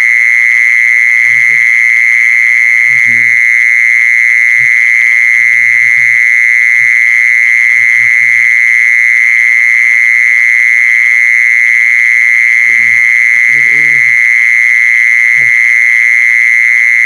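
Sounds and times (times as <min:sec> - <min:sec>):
cicada buzzing: 0:00.0 - 0:17.0.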